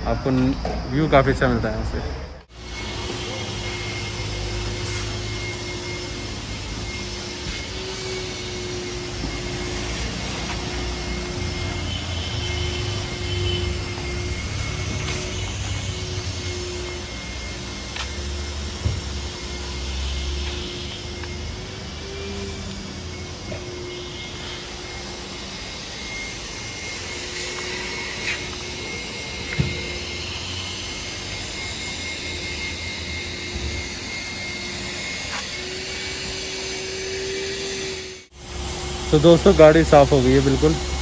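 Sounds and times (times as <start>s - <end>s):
electric motor humming with whine: 0.0s - 41.0s.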